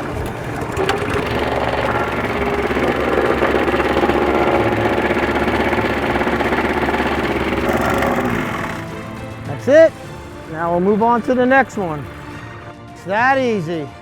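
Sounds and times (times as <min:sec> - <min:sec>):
plate compactor engine pulsing: 0:00.0 - 0:12.9.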